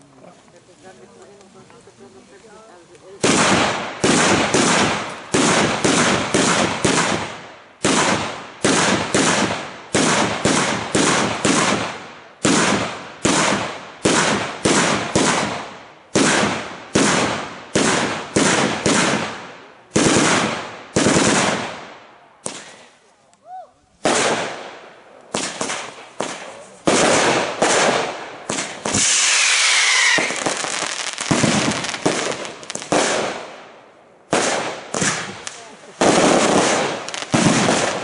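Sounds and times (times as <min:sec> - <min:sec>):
firecracker bangs echoing: 0:03.1 - 0:23.0, 0:24.0 - 0:38.0.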